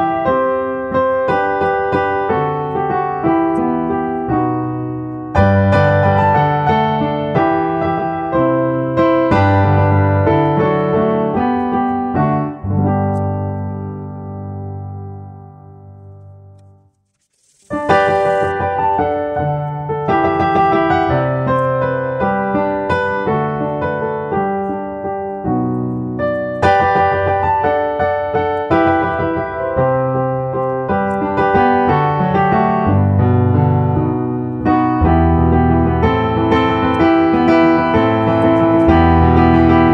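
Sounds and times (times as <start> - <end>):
piano music: 0.0 - 16.6, 17.7 - 39.9.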